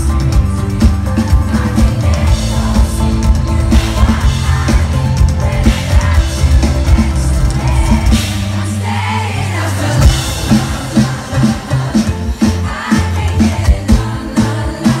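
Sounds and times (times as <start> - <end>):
drum and bass beat: 0.0 - 15.0
lead vocalist singing: 0.0 - 15.0.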